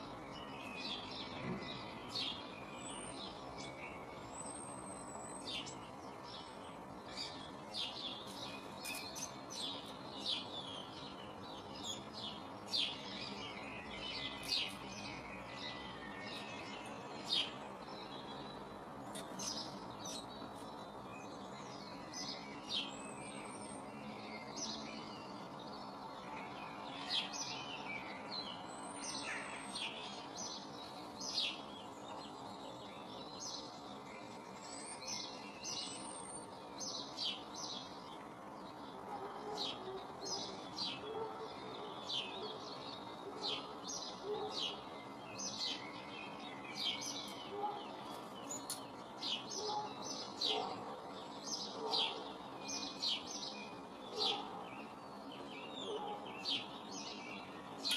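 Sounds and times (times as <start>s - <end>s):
low background noise: 0.0s - 57.9s
small birds chirping: 0.0s - 57.9s.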